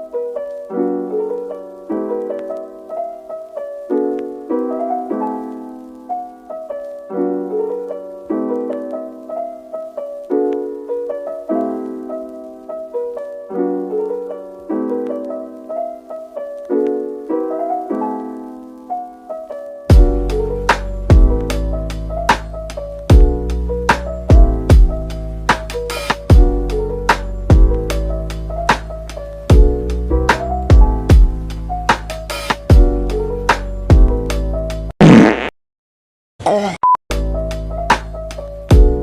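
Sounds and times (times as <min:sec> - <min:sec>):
solo piano chords: 0:00.0 - 0:34.9.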